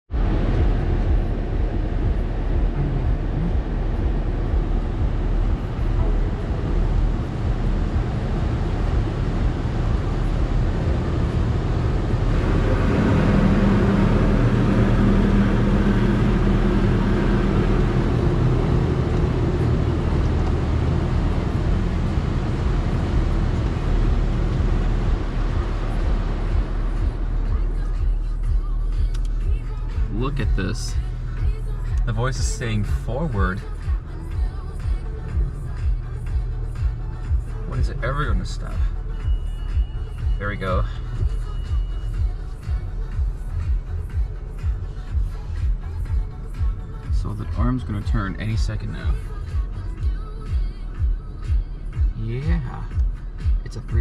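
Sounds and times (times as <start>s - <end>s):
car engine humming: 0.0s - 54.0s.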